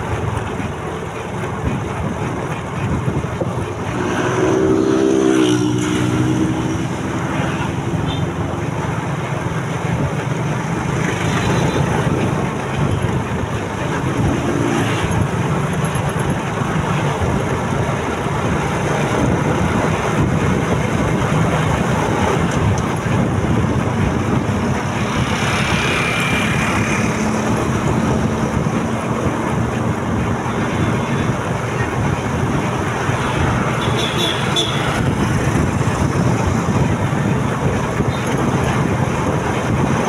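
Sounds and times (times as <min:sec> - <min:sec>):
road noise: 0:00.0 - 0:40.0
wind noise: 0:00.0 - 0:40.0.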